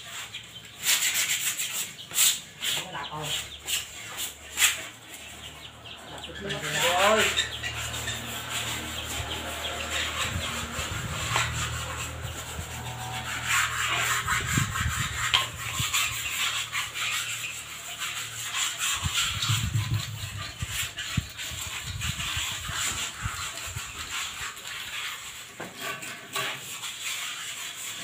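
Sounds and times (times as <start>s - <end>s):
metal scraper scraping cement: 0.0s - 28.0s.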